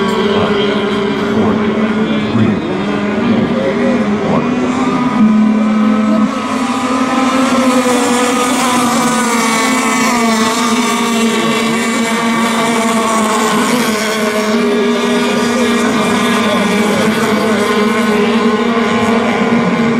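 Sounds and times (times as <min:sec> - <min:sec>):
model boat engines running: 0:00.0 - 0:19.9.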